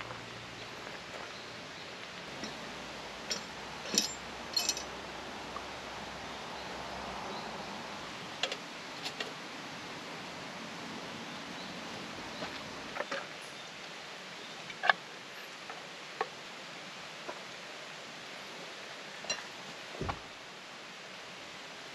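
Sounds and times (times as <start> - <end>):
background hiss: 0.0 - 21.9.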